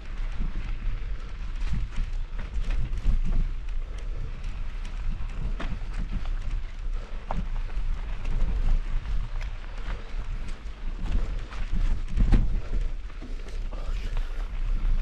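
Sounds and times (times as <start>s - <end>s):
bike tyres clicking and rattling: 0.0s - 15.0s
wind rumble on microphone: 0.0s - 15.0s.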